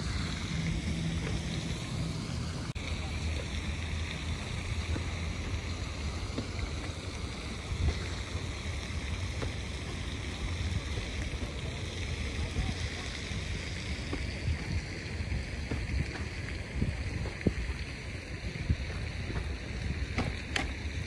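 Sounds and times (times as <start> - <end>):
wind rumbling on microphone: 3.5 - 21.0.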